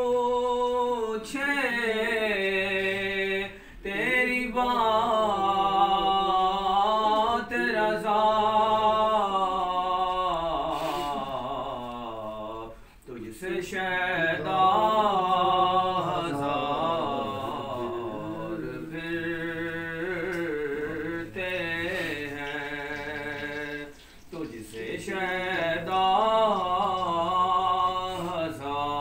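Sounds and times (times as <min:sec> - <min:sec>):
man chanting melodically: 0:00.0 - 0:29.0.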